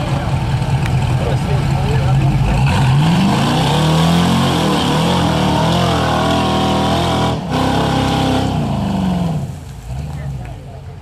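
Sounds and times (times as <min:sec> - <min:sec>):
buggy engine revving hard: 0:01.0 - 0:10.5.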